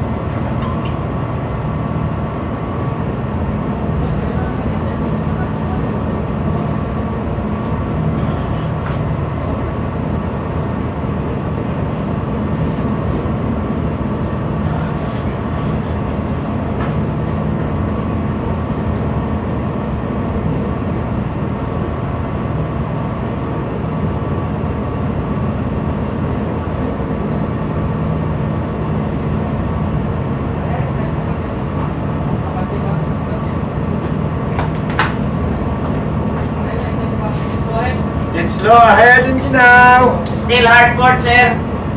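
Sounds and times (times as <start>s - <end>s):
ship engine drone: 0.0s - 41.9s.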